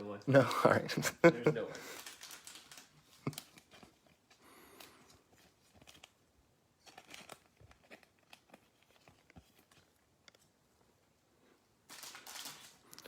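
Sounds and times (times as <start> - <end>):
trading cards and wrappers rustling: 1.0 - 10.6, 11.7 - 13.0.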